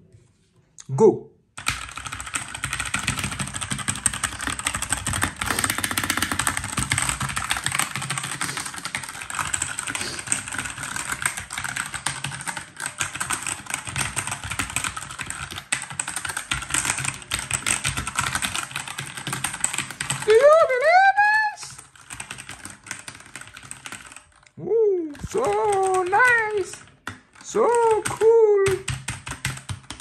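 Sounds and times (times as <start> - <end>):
mechanical keyboard keys clattering: 1.6 - 20.5, 21.7 - 30.0.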